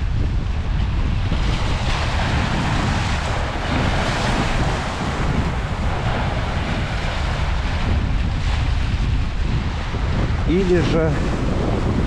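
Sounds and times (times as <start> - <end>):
wind rumble on microphone: 0.0 - 12.0
waves splashing against boulders: 0.4 - 12.0.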